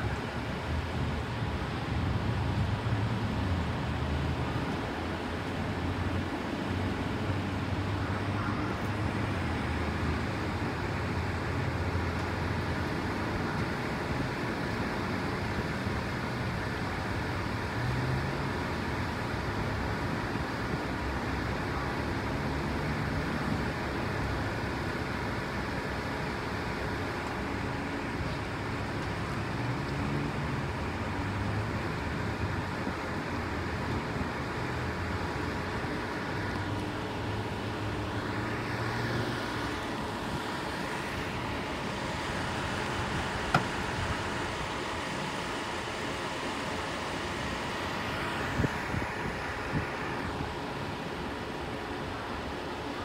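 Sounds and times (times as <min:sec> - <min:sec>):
road traffic: 0:00.0 - 0:53.0
vehicle engines running: 0:00.0 - 0:53.0.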